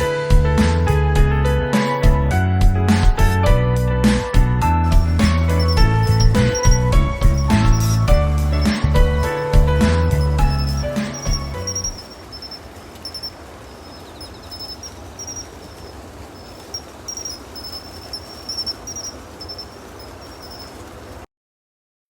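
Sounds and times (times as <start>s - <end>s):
crickets chirping: 1.6s - 3.5s, 4.7s - 21.2s.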